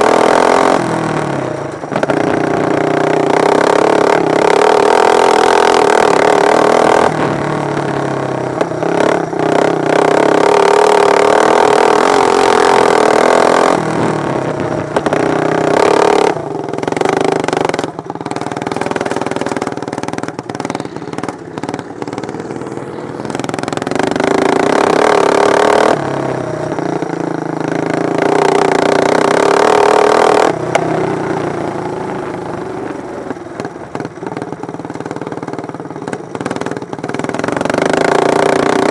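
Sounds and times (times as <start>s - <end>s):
lawn mower engines racing past: 0.0s - 34.2s.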